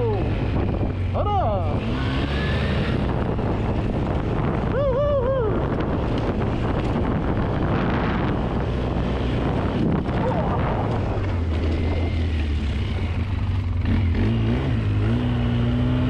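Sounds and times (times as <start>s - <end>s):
atv engine running: 0.0s - 16.0s
wind noise on microphone: 0.0s - 16.0s.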